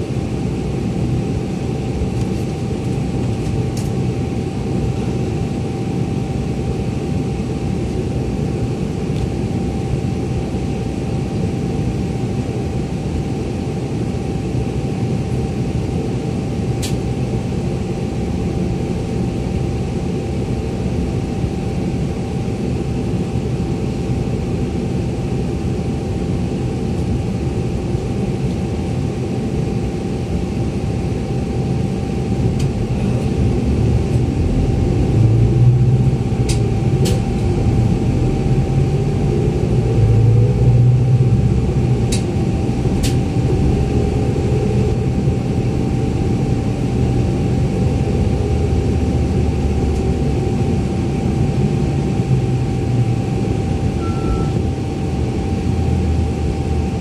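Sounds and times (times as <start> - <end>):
faint constant whine: 0.0 - 57.0.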